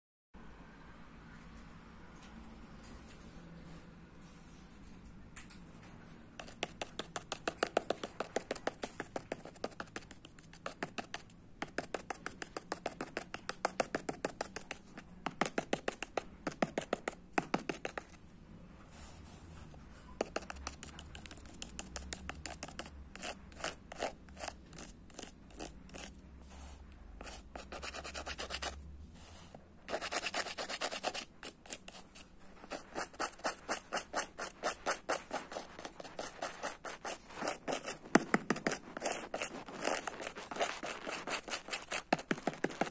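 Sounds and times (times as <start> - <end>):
painting tool scratching canvas: 6.4 - 18.2, 20.2 - 42.9.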